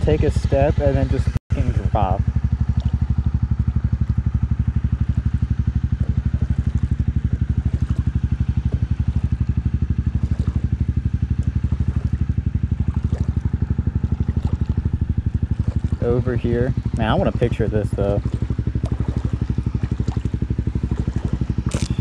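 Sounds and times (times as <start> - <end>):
faint water splashes: 0.0 - 22.0
motorcycle engine idling: 0.0 - 22.0.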